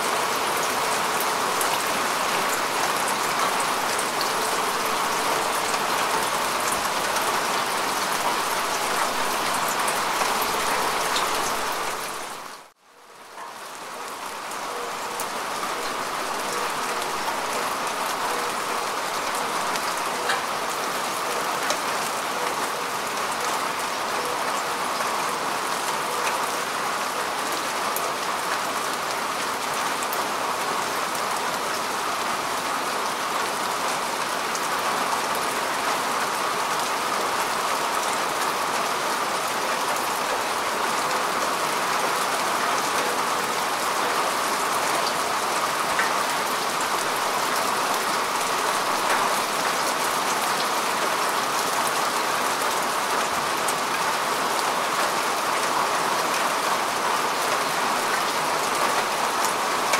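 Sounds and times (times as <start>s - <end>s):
rain falling on grass: 0.0s - 59.9s.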